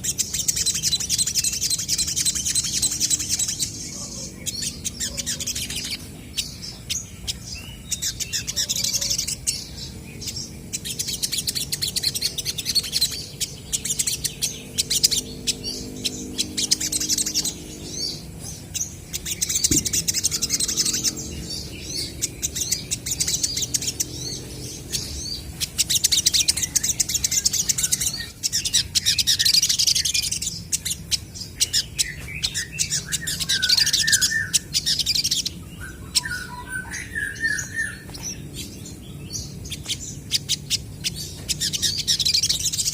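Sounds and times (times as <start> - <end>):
birds twittering and chirping: 0.0 - 42.9.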